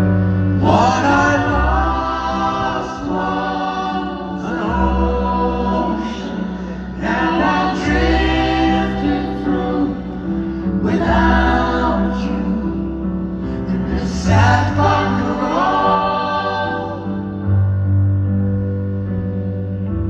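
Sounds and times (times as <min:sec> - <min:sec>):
wordless vocal harmonies: 0:00.0 - 0:19.9
live band playing a slow ballad: 0:00.0 - 0:20.0
sustained low bass notes: 0:00.0 - 0:20.0.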